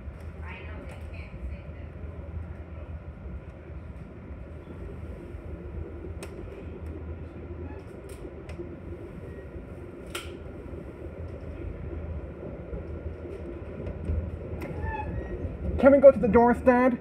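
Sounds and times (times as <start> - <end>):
train car rumbling: 0.0 - 17.0.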